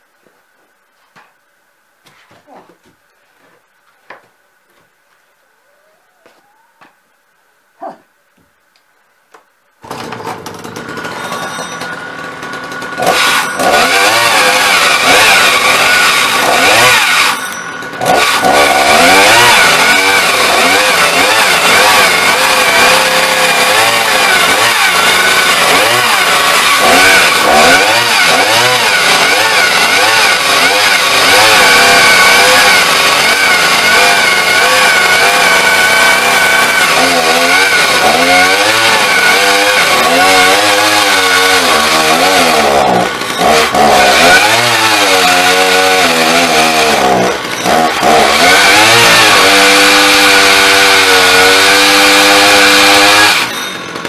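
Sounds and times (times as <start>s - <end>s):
chainsaw cutting through log: 9.8s - 54.0s.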